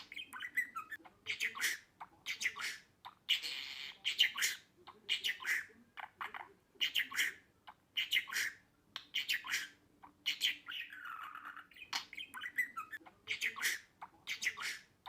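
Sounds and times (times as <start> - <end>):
budgerigar chattering: 0.0 - 15.0.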